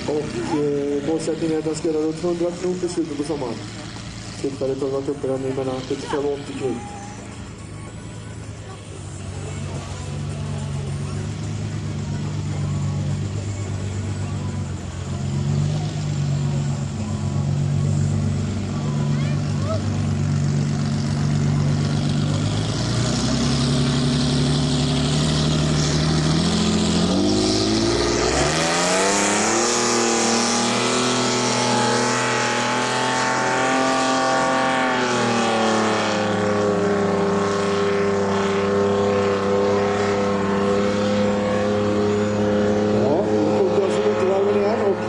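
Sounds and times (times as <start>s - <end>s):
boat engine accelerating: 0.0s - 45.0s.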